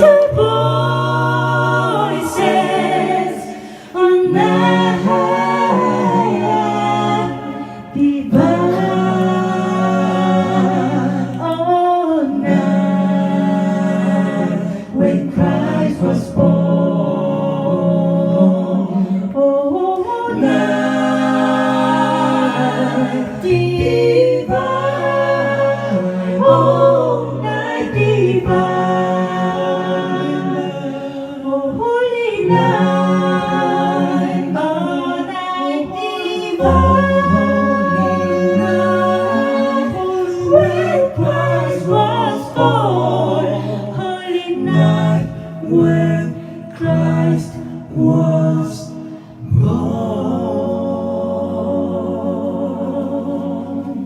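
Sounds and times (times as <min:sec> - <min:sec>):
a cappella group singing harmony: 0:00.0 - 0:54.0.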